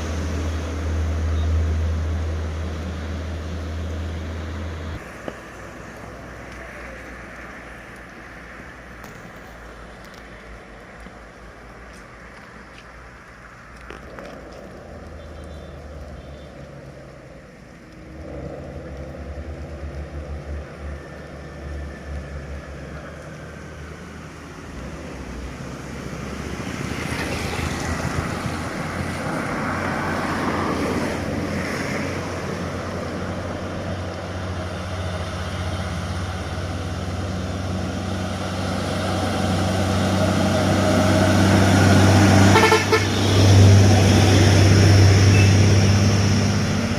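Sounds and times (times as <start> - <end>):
diesel truck engine climbing: 0.0 - 9.0, 9.6 - 46.9.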